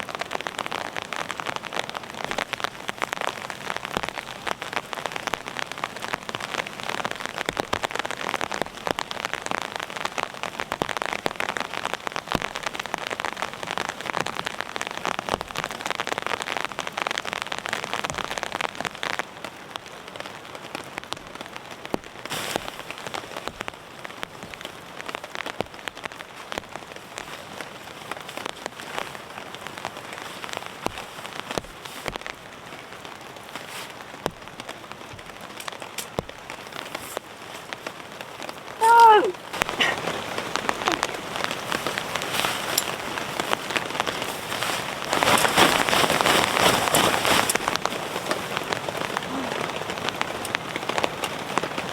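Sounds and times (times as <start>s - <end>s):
heavy rain pattering: 0.0s - 51.9s.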